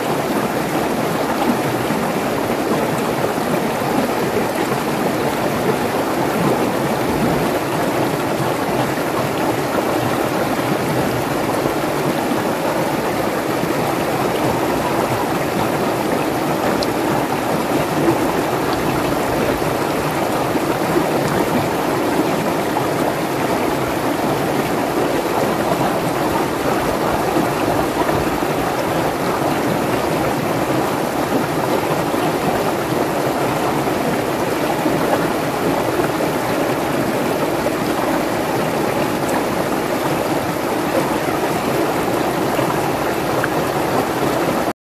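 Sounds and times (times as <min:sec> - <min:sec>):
stream rushing over rocks: 0:00.0 - 0:44.7.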